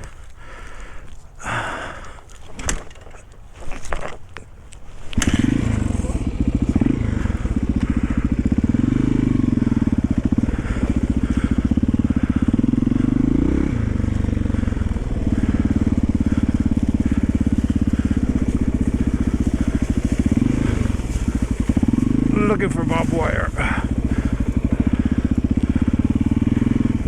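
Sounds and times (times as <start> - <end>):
motorcycle engine running: 5.0 - 27.0.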